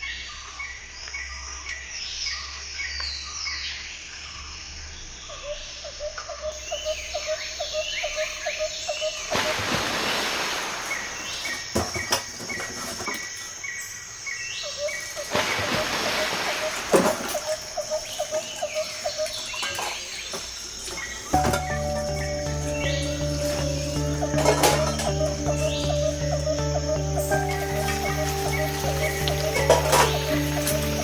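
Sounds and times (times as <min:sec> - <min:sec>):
birds chirping: 0:05.2 - 0:31.0.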